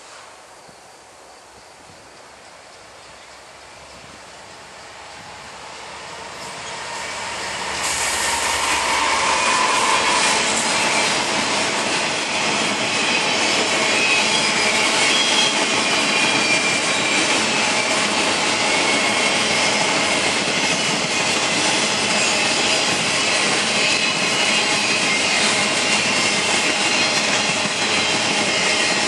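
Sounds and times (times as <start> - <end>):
diesel locomotives passing: 1.4 - 29.0.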